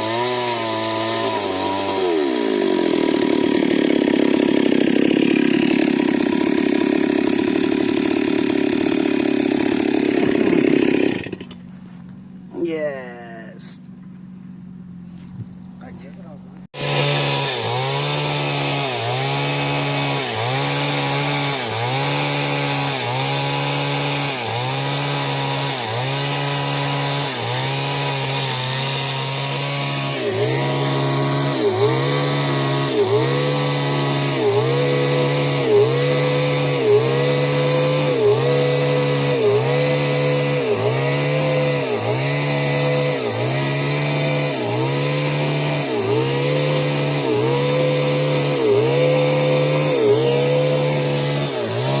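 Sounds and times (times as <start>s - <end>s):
chainsaw cutting wood: 0.0s - 11.9s, 16.1s - 52.0s.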